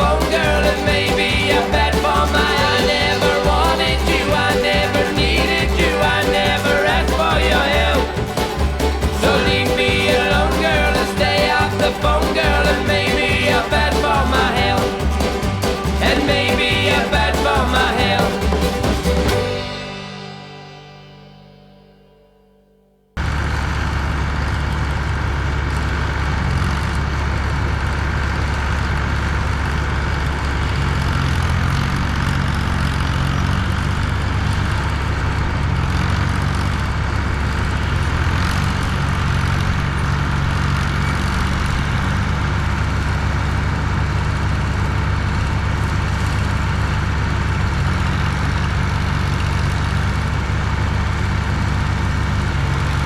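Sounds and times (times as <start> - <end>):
heavy diesel engine running: 0.0 - 21.2, 23.2 - 53.0.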